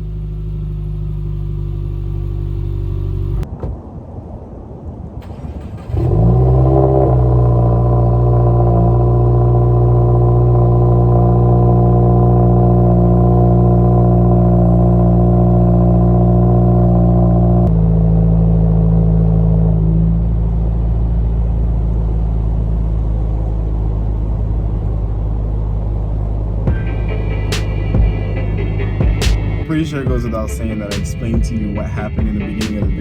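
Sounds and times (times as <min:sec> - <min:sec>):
car engine starting and idling: 0:00.0 - 0:03.5, 0:05.2 - 0:33.0.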